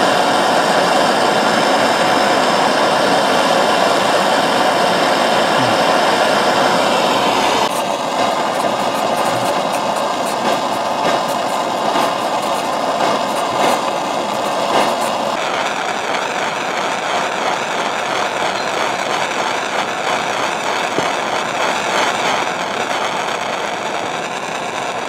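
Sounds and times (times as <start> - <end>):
gas burner flame roaring: 0.0 - 25.0.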